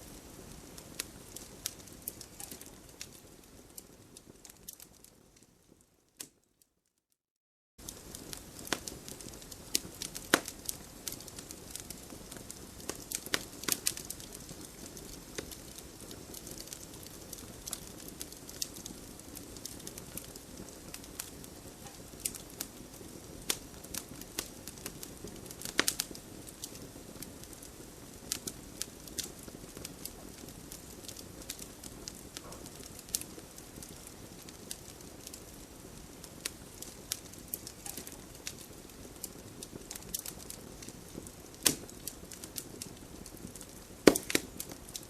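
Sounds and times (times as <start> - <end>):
campfire crackling and popping: 0.0 - 6.4, 7.8 - 45.0
low fire hiss: 0.0 - 6.6, 7.8 - 45.0.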